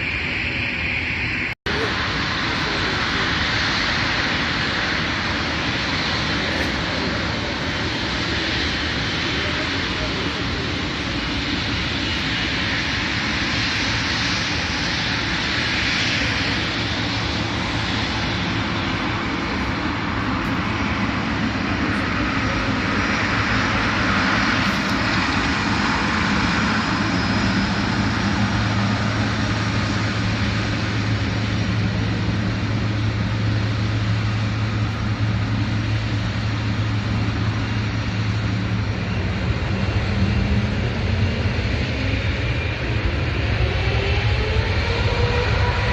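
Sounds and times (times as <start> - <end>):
airliner engine noise: 0.0 - 45.9.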